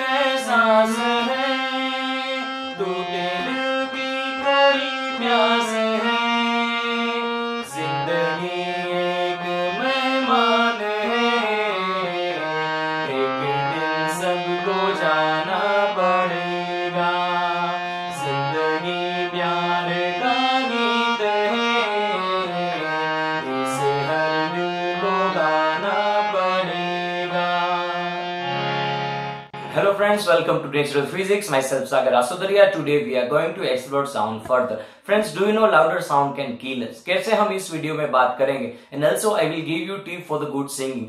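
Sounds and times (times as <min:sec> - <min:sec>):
man singing: 0:00.0 - 0:28.2, 0:29.6 - 0:41.0
harmonium playing: 0:00.0 - 0:40.2.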